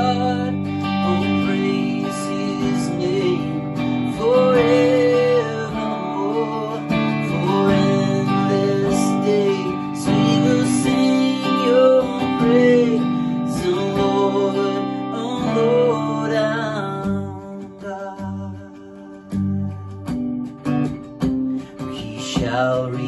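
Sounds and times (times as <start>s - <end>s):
man singing: 0.0s - 20.2s, 21.5s - 23.0s
electric guitar strumming chords: 0.0s - 23.0s.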